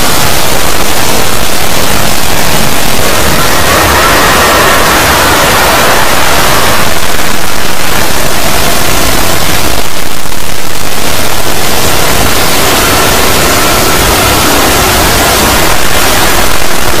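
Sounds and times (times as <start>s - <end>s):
heavily distorted loud audio: 0.0s - 17.0s
static hiss: 0.0s - 17.0s.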